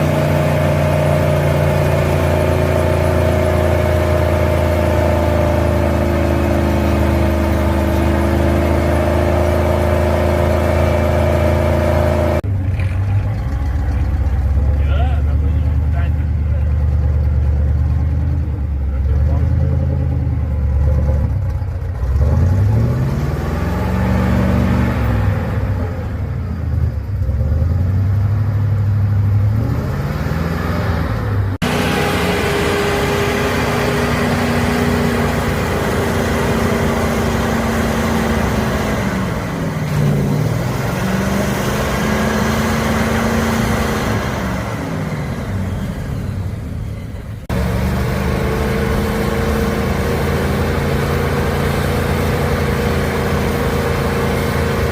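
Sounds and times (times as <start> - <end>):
truck engines revving under load: 0.0 - 54.9.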